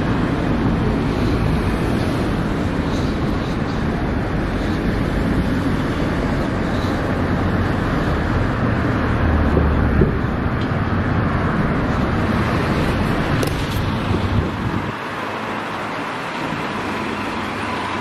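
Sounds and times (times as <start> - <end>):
city road traffic: 0.0 - 18.0.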